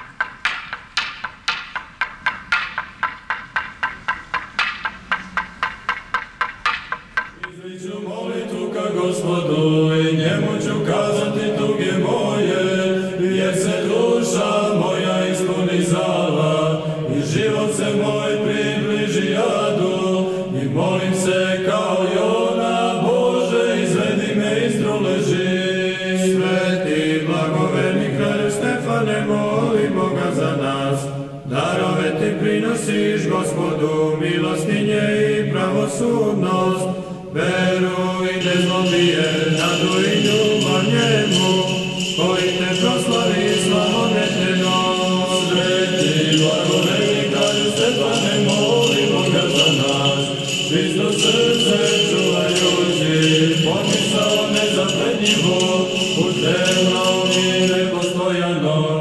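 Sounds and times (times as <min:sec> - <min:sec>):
choir chanting slow long notes: 0:07.4 - 0:59.0.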